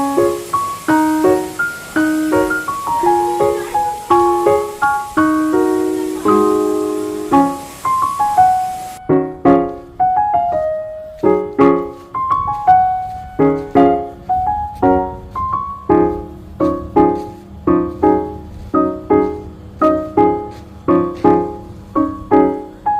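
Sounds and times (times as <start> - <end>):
solo piano melody: 0.0 - 22.9.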